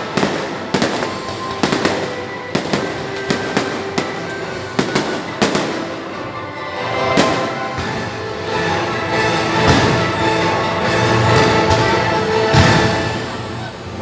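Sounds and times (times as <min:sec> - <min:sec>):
fireworks bangs: 0:00.0 - 0:13.5
music playing: 0:00.0 - 0:14.0.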